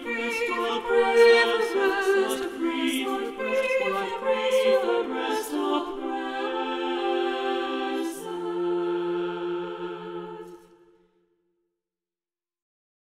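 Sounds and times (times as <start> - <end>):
choir singing a cappella: 0.0 - 11.2.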